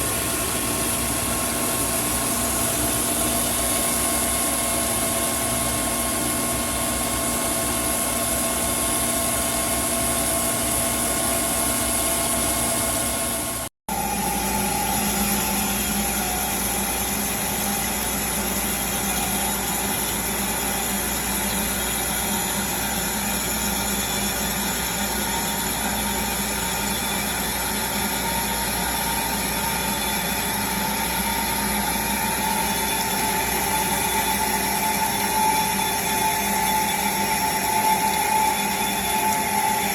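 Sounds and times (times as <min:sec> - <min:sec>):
grinding machine running: 0:00.0 - 0:39.9.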